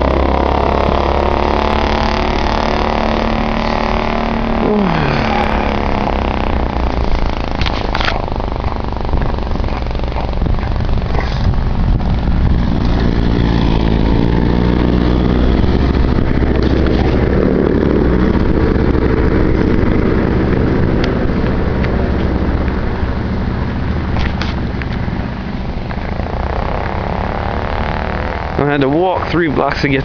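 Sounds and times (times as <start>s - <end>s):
heavy low rumble: 0.0s - 30.0s
vehicle engine passing by: 0.0s - 30.0s.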